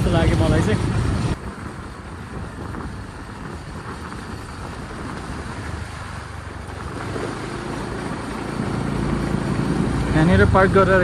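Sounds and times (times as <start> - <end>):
motorbike engine running: 0.0 - 11.0
road and wind noise: 0.0 - 11.0.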